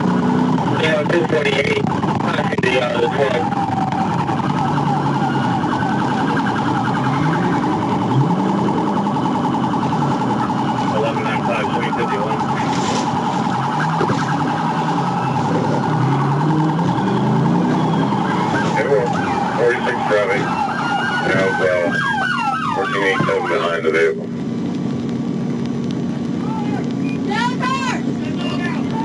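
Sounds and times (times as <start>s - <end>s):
police siren fast-pulsing: 0.0s - 24.4s.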